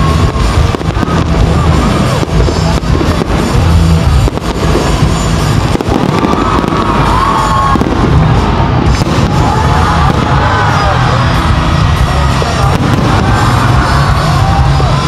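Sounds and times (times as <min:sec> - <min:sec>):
fireworks bangs and booms: 0:00.0 - 0:15.0
loud music: 0:00.0 - 0:15.0.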